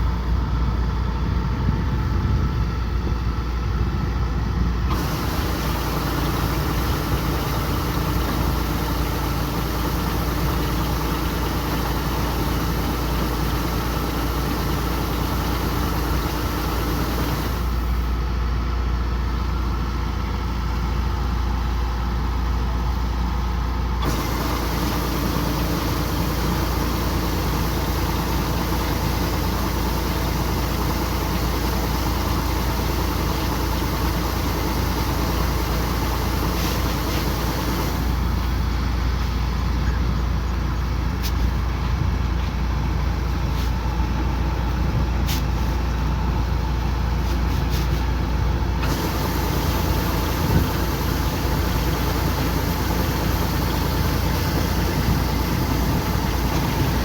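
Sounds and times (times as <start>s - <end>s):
combine harvester engine drone: 0.0s - 57.0s
harvesting machinery clatter: 4.9s - 18.0s, 24.0s - 57.0s.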